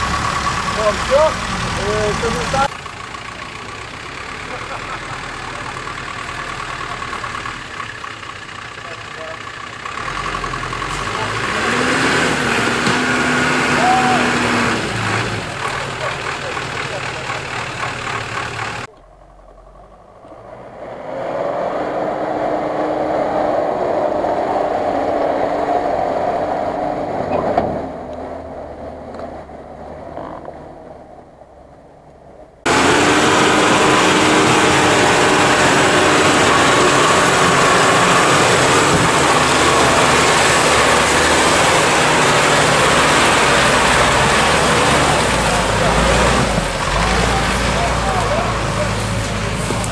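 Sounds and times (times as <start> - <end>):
engine revving: 0.0 - 31.0, 32.6 - 49.9
loud steady truck engine: 0.0 - 49.9
off-road engines in mud: 0.0 - 49.9.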